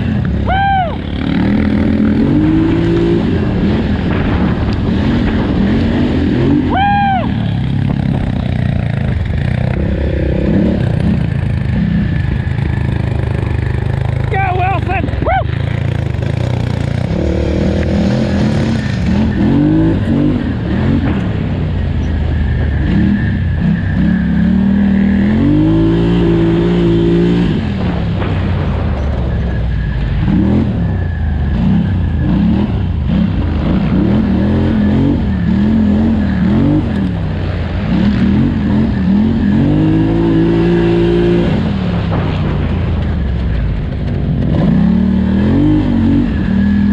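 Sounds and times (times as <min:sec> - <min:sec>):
atv engine revving: 0:00.0 - 0:29.6, 0:30.2 - 0:46.9.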